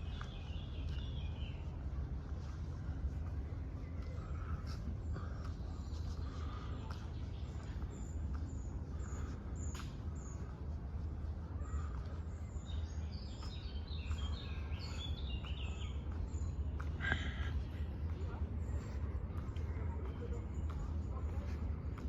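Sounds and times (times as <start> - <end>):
low background rumble: 0.0 - 22.0
small songbirds chirping: 0.0 - 22.0.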